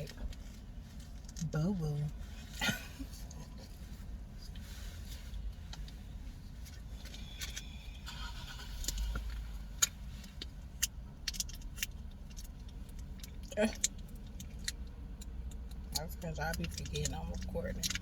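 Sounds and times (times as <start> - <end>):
car interior rumble: 0.0 - 18.0.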